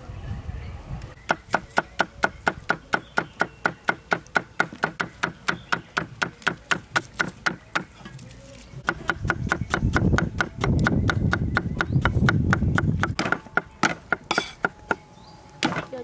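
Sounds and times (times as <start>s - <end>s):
cleaver chopping on wooden block: 1.3s - 8.1s, 8.8s - 15.0s.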